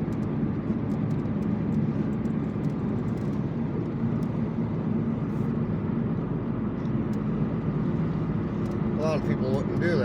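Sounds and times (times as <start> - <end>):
car engine and tyre drone: 0.0 - 10.0.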